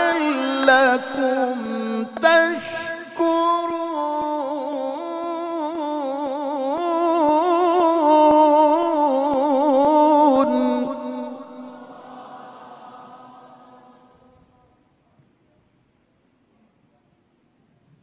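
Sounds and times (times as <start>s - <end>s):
man reciting melismatic chant: 0.0s - 14.5s.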